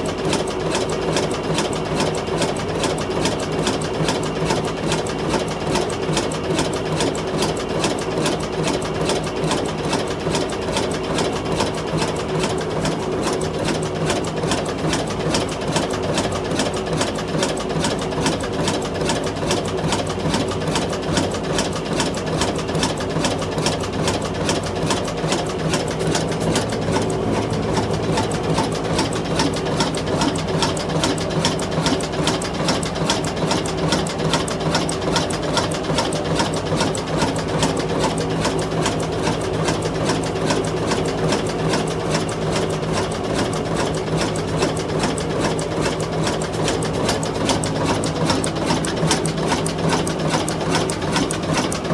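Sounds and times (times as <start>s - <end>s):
diesel engine clattering: 0.0s - 51.9s.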